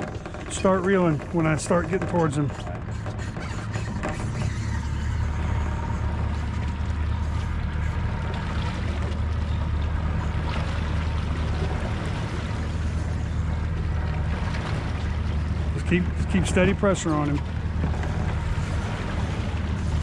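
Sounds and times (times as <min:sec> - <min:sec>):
boat motor humming: 0:00.0 - 0:20.0
water splashing along hull: 0:00.0 - 0:20.0.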